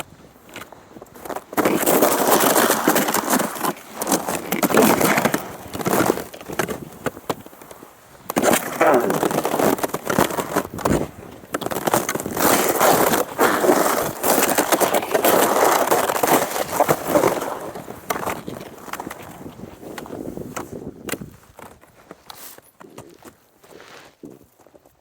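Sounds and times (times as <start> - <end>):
skis scraping over snow: 0.0 - 25.0.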